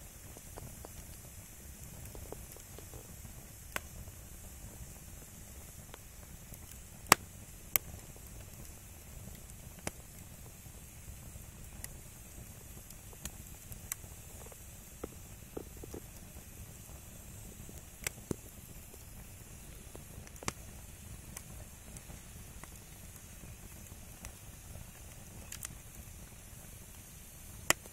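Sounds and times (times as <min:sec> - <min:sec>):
fire low rumble: 0:00.0 - 0:27.9
firewood crackling and popping: 0:00.0 - 0:27.9.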